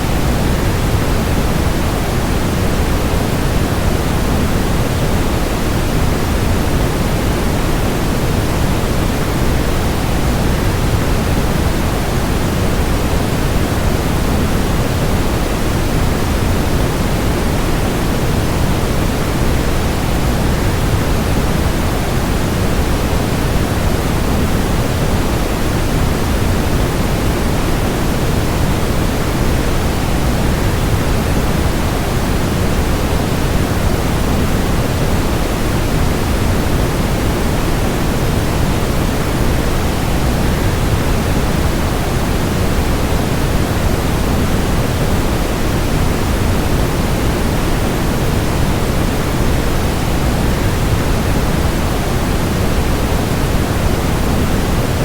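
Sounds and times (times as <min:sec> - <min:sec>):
waterfall roar with white noise: 0:00.0 - 0:55.0.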